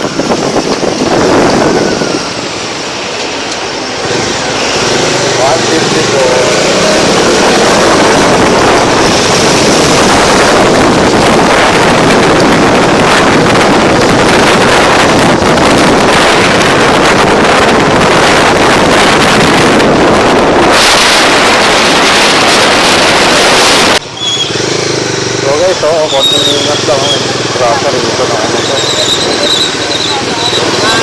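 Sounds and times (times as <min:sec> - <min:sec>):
motorcycle engine: 0:00.0 - 0:31.0
road noise: 0:00.0 - 0:31.0
wind rushing over microphone: 0:00.0 - 0:31.0.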